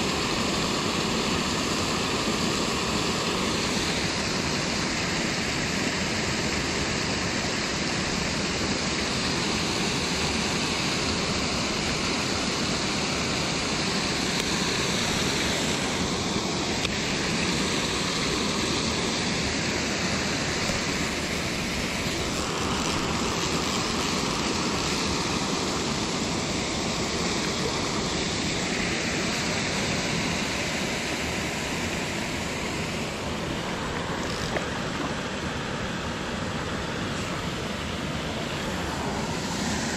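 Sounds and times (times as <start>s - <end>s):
river water rushing over weir: 0.0s - 39.9s.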